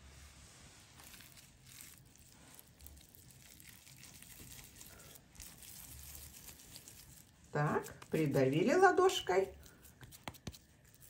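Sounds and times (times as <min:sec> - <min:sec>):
hands shaping sticky mince: 0:00.7 - 0:11.0.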